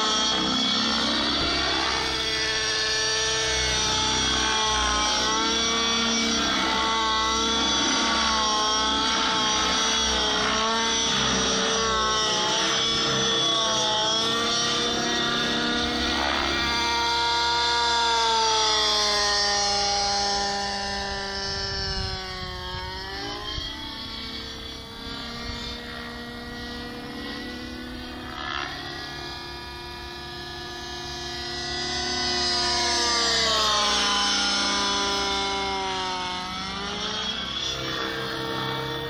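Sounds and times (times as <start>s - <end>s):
model helicopter engine and rotor: 0.0s - 39.0s.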